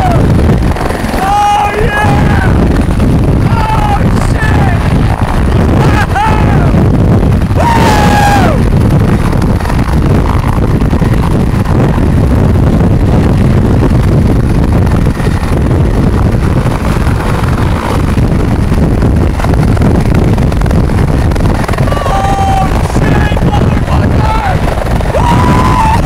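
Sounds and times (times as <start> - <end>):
helicopter rotor and turbine rumble: 0.0 - 26.0
wind blowing across microphone: 0.0 - 26.0.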